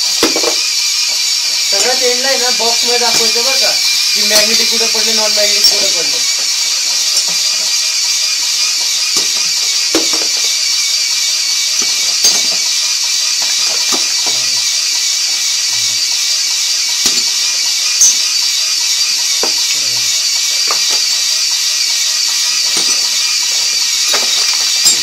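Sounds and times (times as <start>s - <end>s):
small motor whining: 0.0s - 25.0s.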